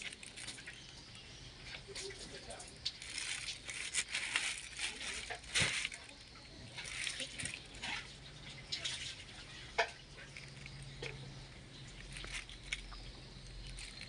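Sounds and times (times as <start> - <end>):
wet plastic bag crinkling: 0.0 - 14.0.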